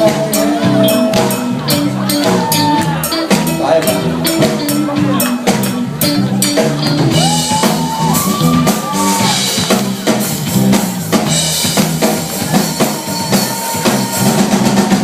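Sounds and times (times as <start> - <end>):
bending lead guitar notes: 0.0 - 15.0
drum kit steady beat: 0.0 - 15.0
rock band playing: 0.0 - 15.0.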